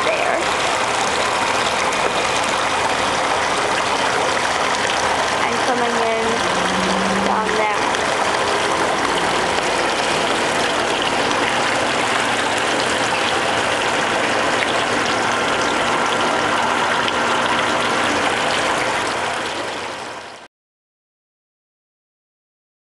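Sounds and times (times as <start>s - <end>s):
juice pouring and splashing: 0.0s - 20.4s.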